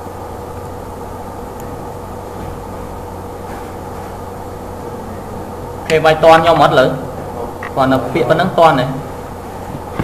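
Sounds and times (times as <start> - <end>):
background hum and hiss: 0.0 - 10.0.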